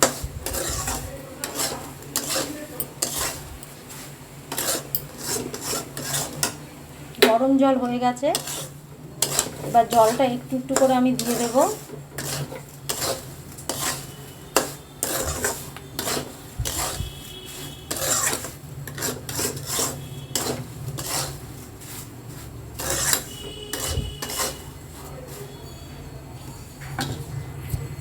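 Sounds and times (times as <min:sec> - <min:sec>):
spatula scraping in a pan: 0:00.0 - 0:27.9.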